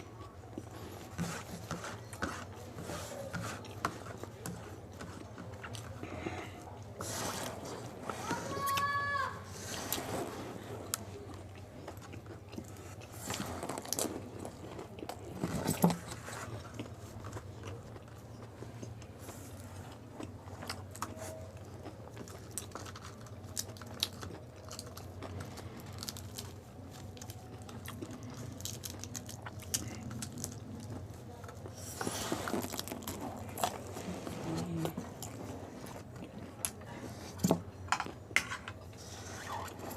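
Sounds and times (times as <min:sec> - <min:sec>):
person chewing crunchy food: 0:00.0 - 0:08.8, 0:09.5 - 0:39.9.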